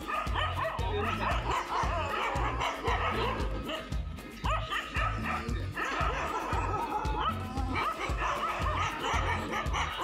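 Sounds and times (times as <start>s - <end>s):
background music with beat: 0.0s - 10.0s
dogs barking and yipping: 0.0s - 10.0s.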